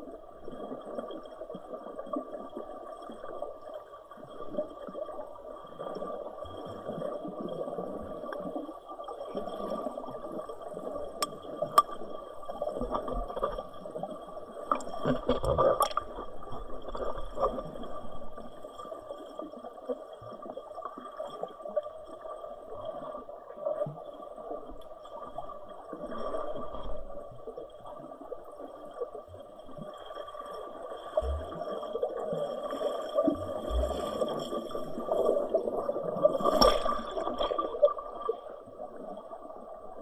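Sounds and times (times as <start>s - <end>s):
water gurgling and sloshing: 0.0s - 40.0s.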